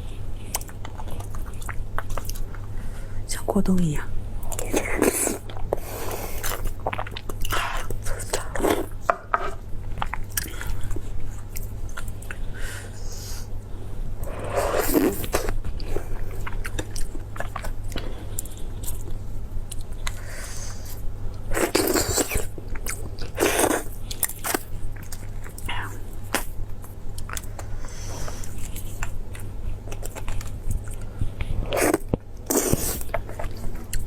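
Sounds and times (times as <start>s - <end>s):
chewing soft food: 0.0s - 3.0s, 4.4s - 34.0s.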